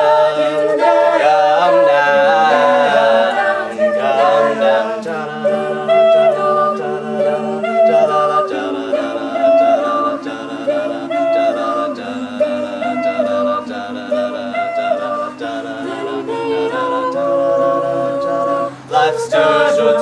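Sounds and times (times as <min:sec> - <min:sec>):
a cappella group singing harmony: 0:00.0 - 0:20.0
vocal percussion ticks: 0:00.0 - 0:20.0.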